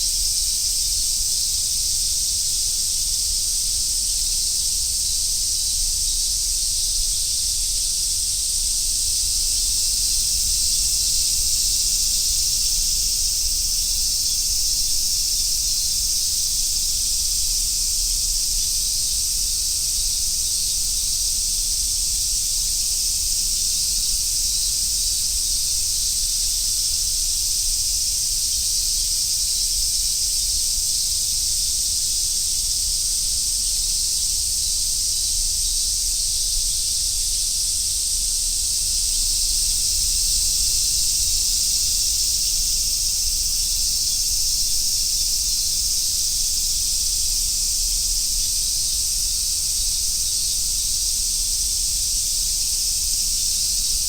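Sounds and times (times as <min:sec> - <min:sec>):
cicadas singing: 0:00.0 - 0:54.0.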